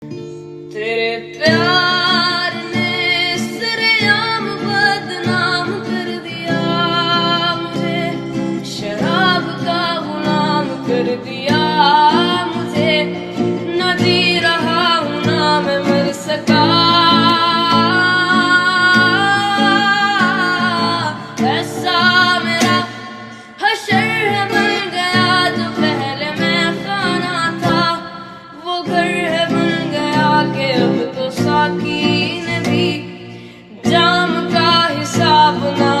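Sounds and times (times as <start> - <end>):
guitar accompaniment: 0.0 - 36.0.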